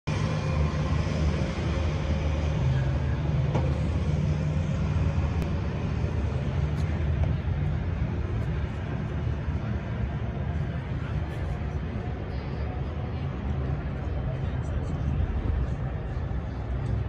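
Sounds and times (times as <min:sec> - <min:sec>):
outdoor background noise: 0:00.1 - 0:17.0
vehicle engine idling: 0:00.1 - 0:17.0.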